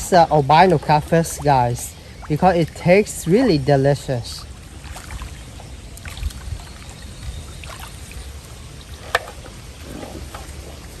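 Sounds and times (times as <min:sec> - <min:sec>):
water trickling and sloshing: 0:00.0 - 0:11.0.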